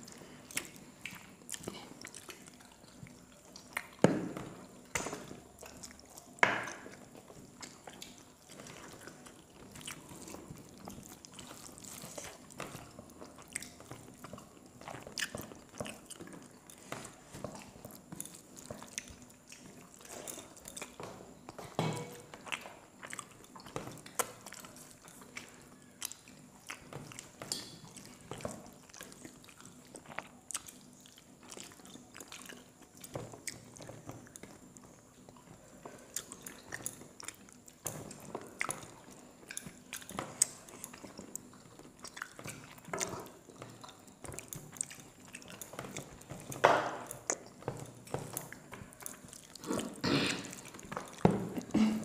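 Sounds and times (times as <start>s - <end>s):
chewing and mouth sounds: 0.0s - 52.0s.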